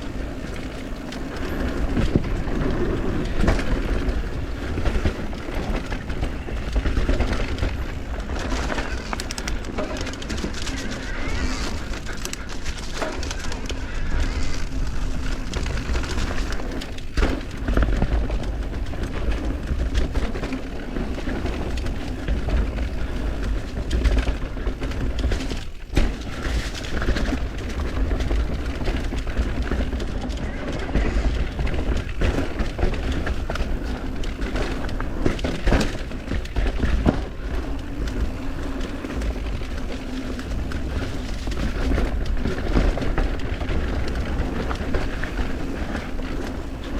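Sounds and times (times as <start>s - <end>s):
bike knocking and rattling: 0.0s - 46.9s
bike tyre noise on dirt: 0.0s - 46.9s
wind buffeting microphone: 0.0s - 46.9s.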